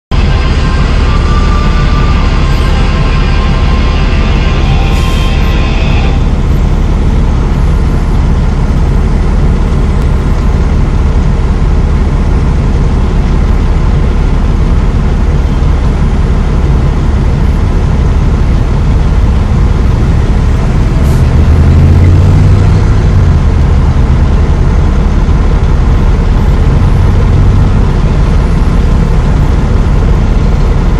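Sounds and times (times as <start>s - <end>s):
vehicle engines idling: 0.1s - 30.9s.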